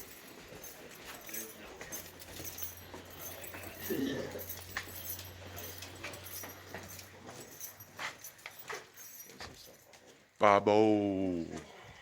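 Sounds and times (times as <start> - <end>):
light metallic jingling: 0.0 - 10.4.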